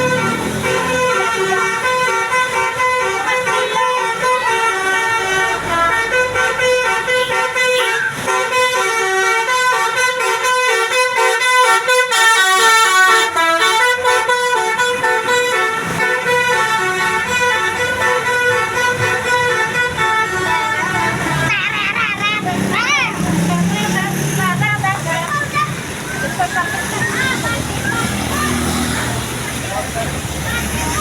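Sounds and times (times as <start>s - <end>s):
multi-tone bus horn melody: 0.0s - 27.5s.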